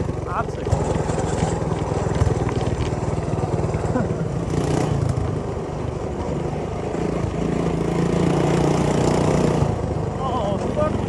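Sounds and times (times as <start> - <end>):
minibike engine under throttle: 0.0 - 11.0
wind and trail noise: 0.0 - 11.0.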